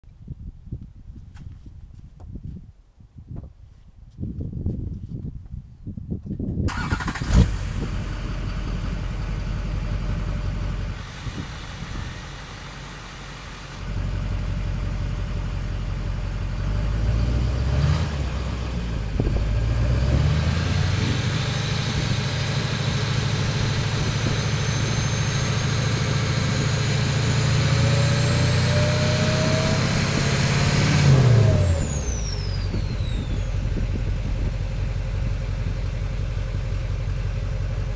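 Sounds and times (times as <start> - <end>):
diesel engine revving: 6.7 - 37.9.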